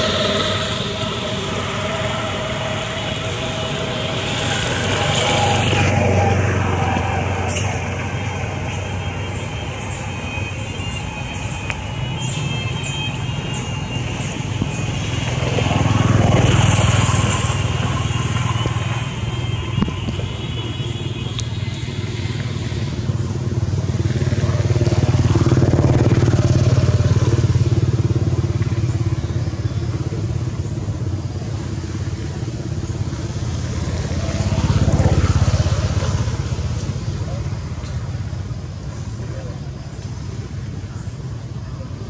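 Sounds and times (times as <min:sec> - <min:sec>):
passing motor vehicles droning: 0:00.0 - 0:42.0.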